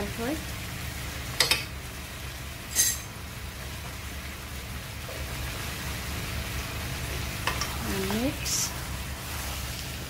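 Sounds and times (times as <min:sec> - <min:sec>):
chicken sizzling in a wok: 0:00.0 - 0:10.0.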